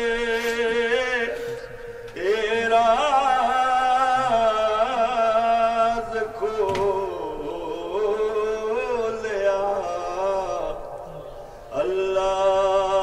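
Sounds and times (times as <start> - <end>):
man chanting religious recitation: 0.0 - 13.0.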